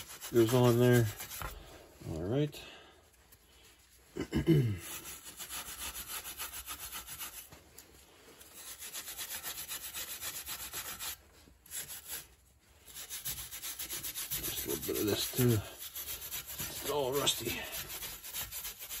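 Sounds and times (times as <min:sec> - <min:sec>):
wire brush scrubbing steel: 0:00.0 - 0:01.8, 0:04.8 - 0:07.6, 0:08.4 - 0:19.0.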